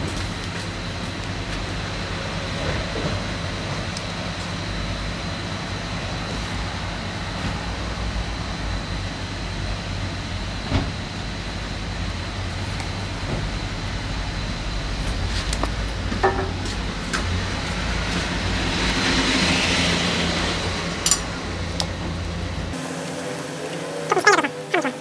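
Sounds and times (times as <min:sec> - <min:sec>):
engine running steadily: 0:00.0 - 0:24.1.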